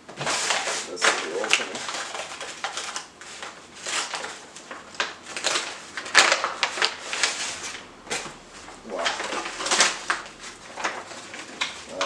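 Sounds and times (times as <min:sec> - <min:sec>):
rustling and scraping of packaging: 0:00.0 - 0:12.0.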